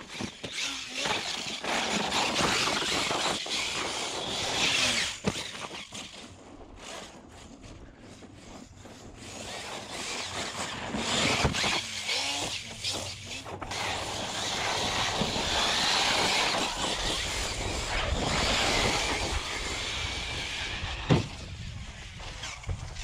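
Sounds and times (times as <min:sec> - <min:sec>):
rc truck motor whine: 0:00.0 - 0:23.0.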